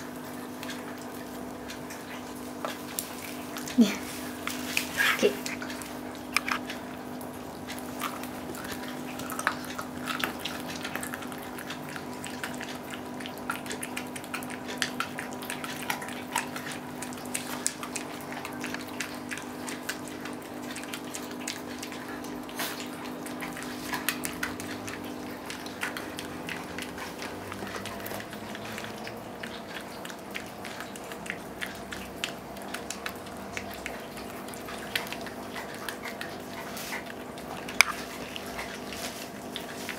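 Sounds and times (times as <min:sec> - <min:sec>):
animals chewing bones: 0:00.0 - 0:39.9.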